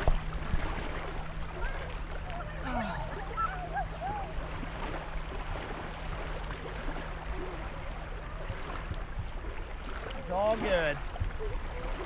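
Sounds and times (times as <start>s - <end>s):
water lapping and sloshing: 0.0s - 12.0s.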